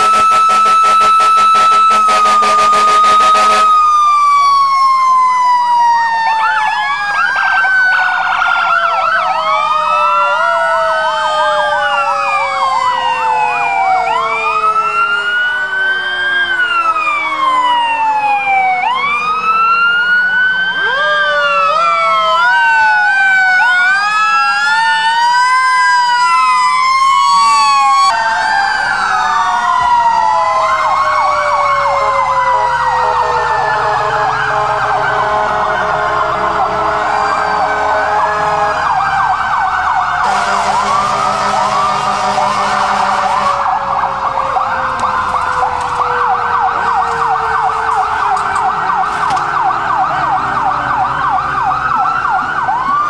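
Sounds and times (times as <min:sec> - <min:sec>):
fire truck sirens wailing: 0:00.0 - 0:53.0
long falling siren tone: 0:00.0 - 0:53.0
siren yelp: 0:00.0 - 0:53.0.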